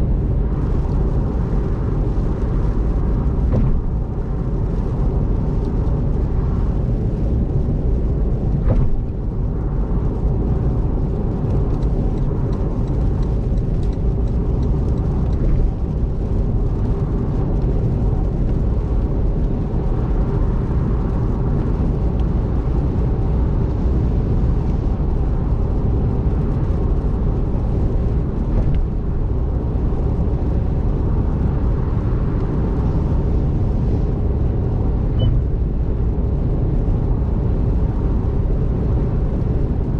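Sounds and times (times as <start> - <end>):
wet tyre road noise: 0.0 - 39.9.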